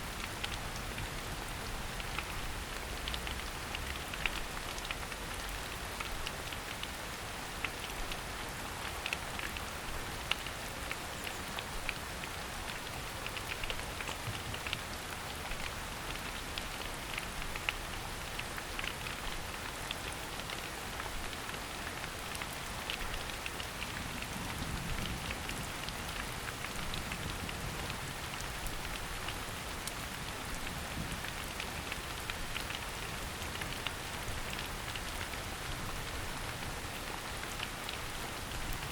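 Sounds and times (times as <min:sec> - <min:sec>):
rain falling in a forest: 0:00.0 - 0:38.9.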